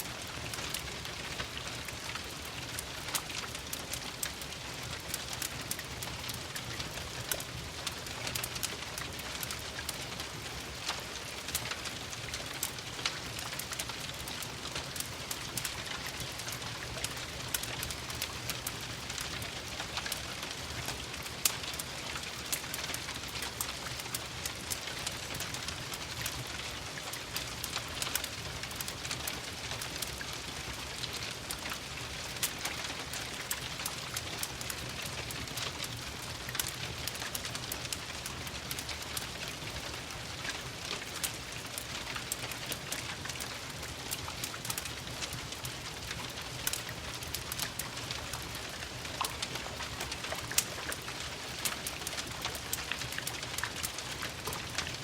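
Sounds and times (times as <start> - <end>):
rain falling: 0.0 - 55.0
wood fire crackling and popping: 0.0 - 55.0.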